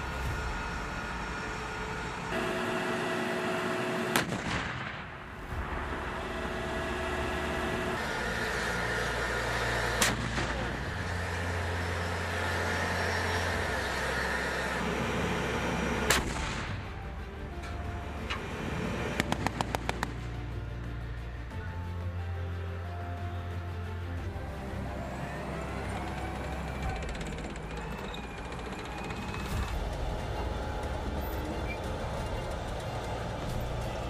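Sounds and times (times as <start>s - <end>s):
dramatic background music: 0.0s - 34.0s.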